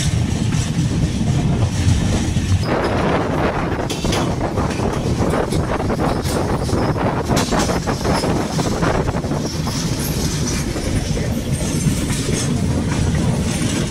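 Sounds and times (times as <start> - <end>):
rail-joint clacks: 0.0 - 13.9
train wheels rumbling on rails: 0.0 - 13.9.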